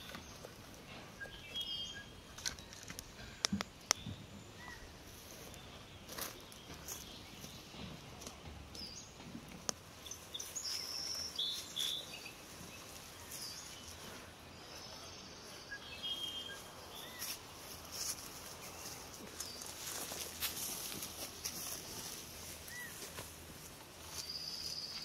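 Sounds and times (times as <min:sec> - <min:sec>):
rustles: 0:00.0 - 0:25.0
small birds chirping: 0:00.0 - 0:25.0.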